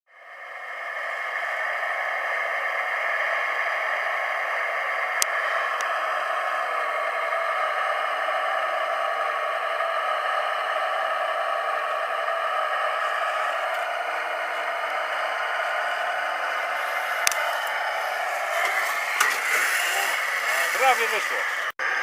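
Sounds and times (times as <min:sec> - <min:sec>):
electric motor and gearbox whining: 0:00.2 - 0:22.0.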